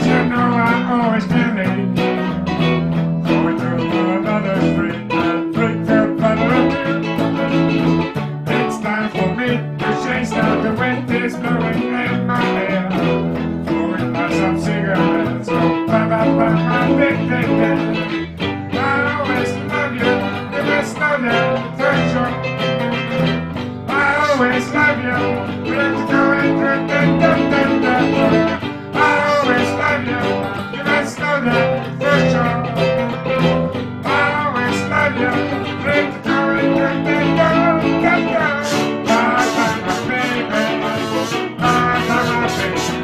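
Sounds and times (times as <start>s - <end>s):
bluesy guitar music: 0.0s - 43.0s.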